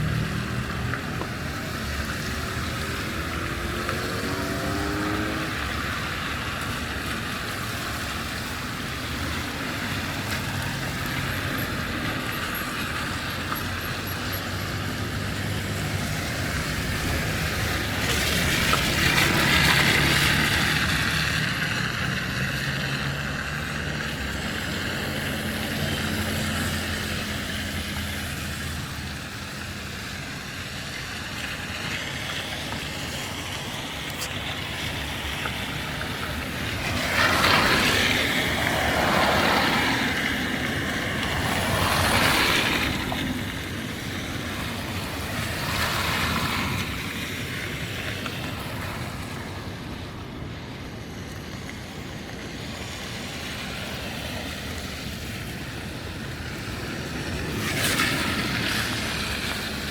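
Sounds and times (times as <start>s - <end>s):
vehicle passing close: 0.0s - 49.9s
traffic engine hum: 0.0s - 59.9s.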